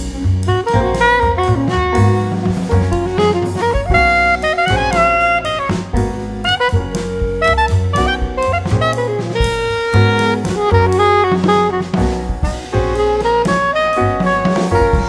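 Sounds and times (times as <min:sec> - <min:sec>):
instrumental music with drum beat: 0:00.0 - 0:15.0.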